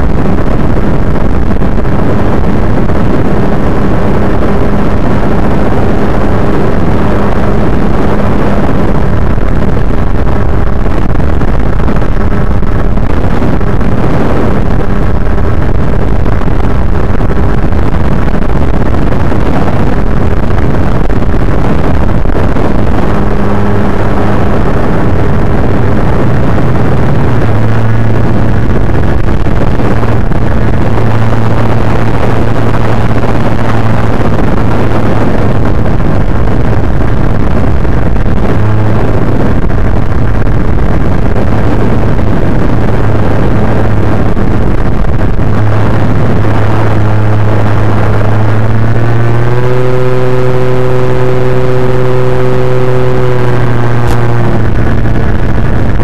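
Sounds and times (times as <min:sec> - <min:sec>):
motor and propeller drone: 0:00.0 - 0:56.0
wind rushing: 0:00.0 - 0:56.0.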